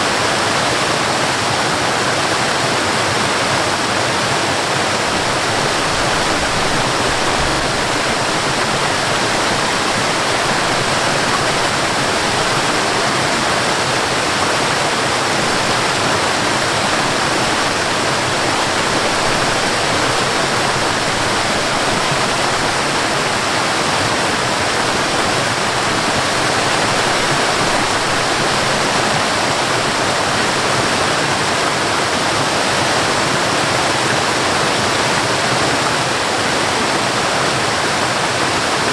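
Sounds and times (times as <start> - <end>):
waterfall rushing into pool: 0.0 - 38.9.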